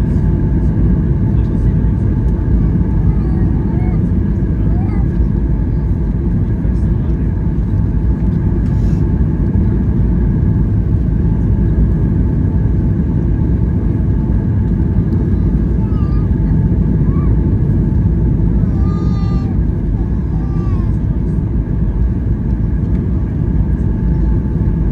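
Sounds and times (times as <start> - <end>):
airplane cabin engine rumble: 0.0 - 24.9.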